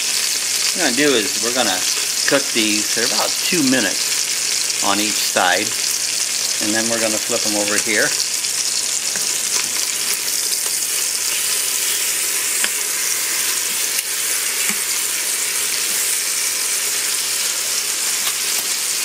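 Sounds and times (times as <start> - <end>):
pork chops sizzling in butter: 0.0 - 19.0.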